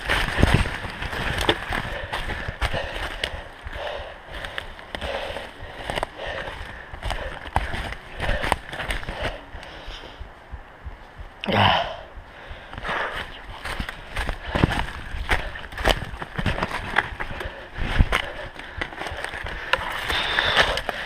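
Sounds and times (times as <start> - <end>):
vegetation rustling: 0.0 - 10.4, 12.4 - 21.0
footsteps on forest floor: 0.0 - 11.7, 12.3 - 21.0
heavy breathing: 0.0 - 21.0.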